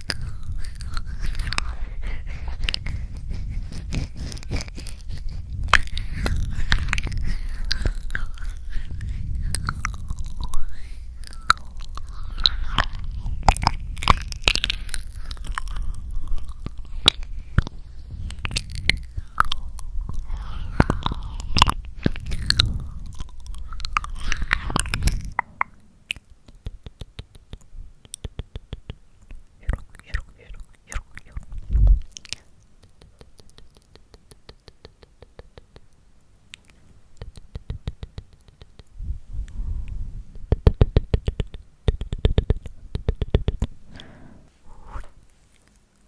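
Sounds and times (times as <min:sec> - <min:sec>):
wet lip and tongue clicks: 0:00.0 - 0:44.2.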